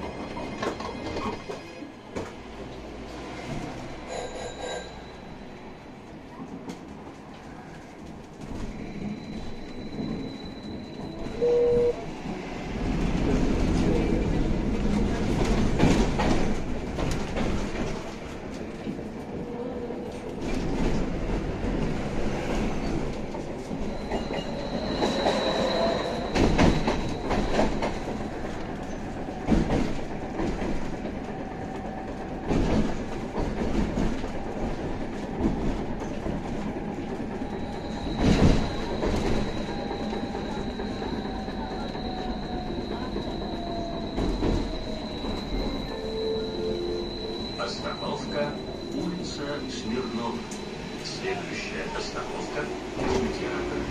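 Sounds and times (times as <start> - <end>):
tram rolling rumble: 0.0 - 53.9.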